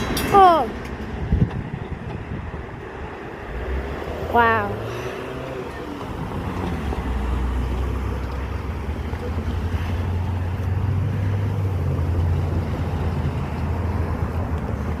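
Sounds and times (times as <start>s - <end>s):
diesel train rumbling: 0.0s - 15.0s.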